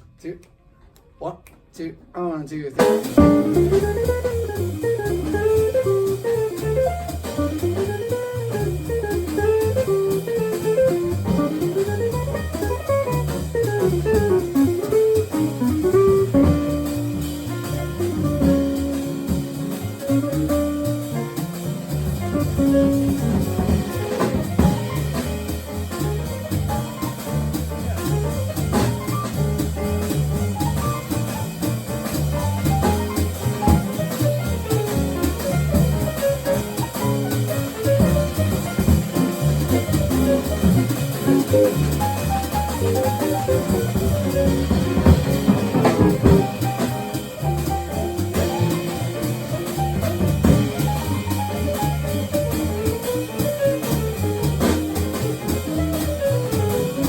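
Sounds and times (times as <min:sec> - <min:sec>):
band playing a tune: 0:02.8 - 0:57.0
drum kit beat: 0:02.8 - 0:57.0.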